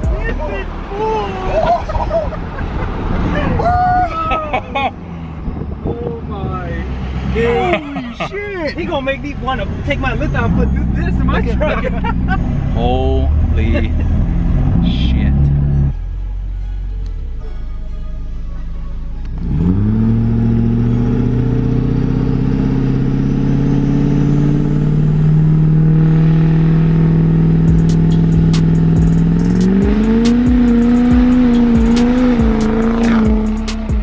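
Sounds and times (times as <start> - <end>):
diesel engine revving: 4.7 - 34.0.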